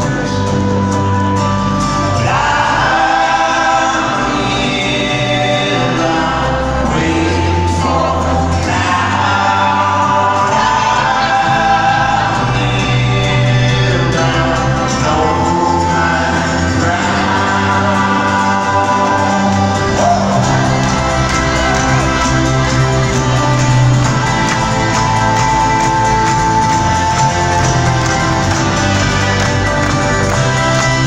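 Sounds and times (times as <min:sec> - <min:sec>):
live folk-rock band: 0:00.0 - 0:31.0
low bass line: 0:00.0 - 0:31.0
voices singing in harmony: 0:02.0 - 0:31.0.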